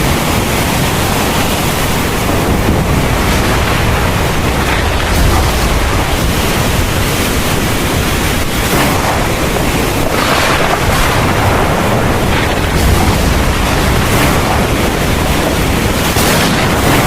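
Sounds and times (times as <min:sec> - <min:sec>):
constant low rumble: 0:00.0 - 0:17.0
heavy rain pouring: 0:00.0 - 0:17.0.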